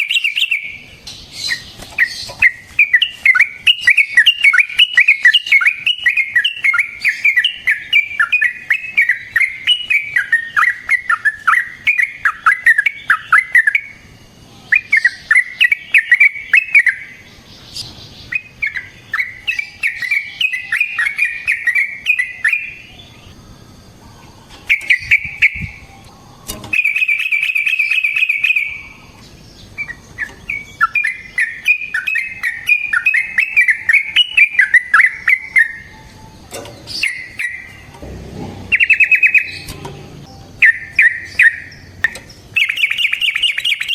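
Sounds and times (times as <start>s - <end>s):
bird singing bubbly chatter: 0.0s - 38.0s, 38.6s - 43.9s.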